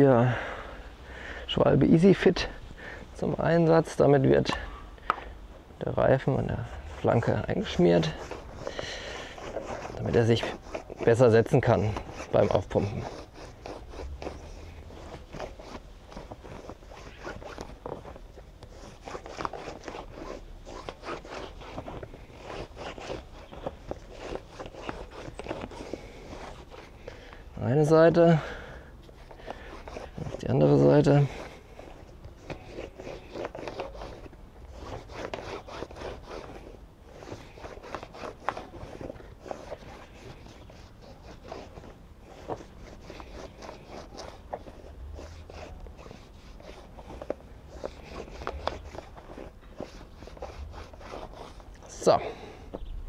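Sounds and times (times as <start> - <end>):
rubber tyre scraping against rim: 3.4 - 52.9
tyre squeaks and clicks: 7.1 - 27.0, 29.1 - 52.9.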